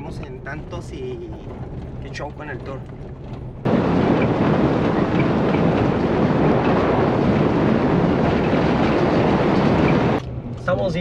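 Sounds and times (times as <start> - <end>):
faint rattles: 0.0 - 11.0
vehicle road noise rumbling: 0.0 - 11.0.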